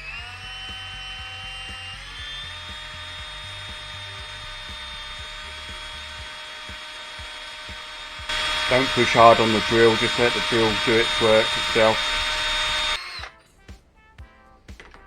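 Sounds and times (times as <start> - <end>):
electric drill whining: 0.0 - 13.4
background music with a steady beat: 0.6 - 15.0.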